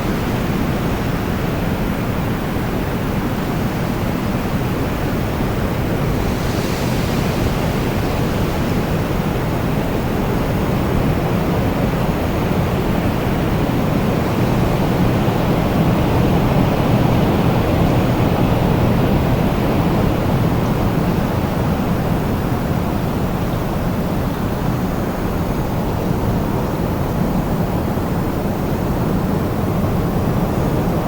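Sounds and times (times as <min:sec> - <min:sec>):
strong wind blowing: 0:00.0 - 0:31.0.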